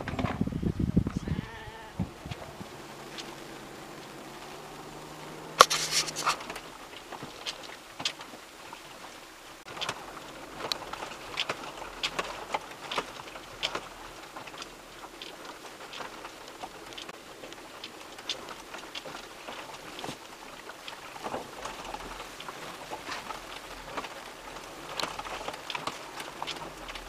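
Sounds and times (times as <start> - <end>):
vehicle rattling over stony track: 0.0 - 27.0.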